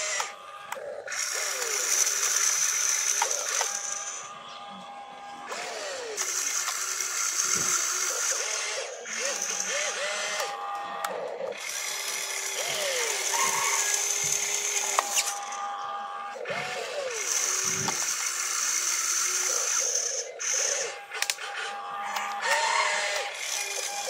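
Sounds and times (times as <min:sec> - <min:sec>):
rc excavator motors whining: 0:00.0 - 0:24.0.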